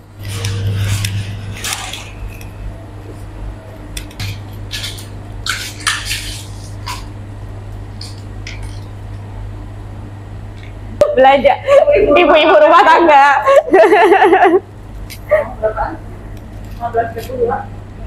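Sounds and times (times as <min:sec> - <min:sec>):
centrifuge humming: 0:00.0 - 0:18.0.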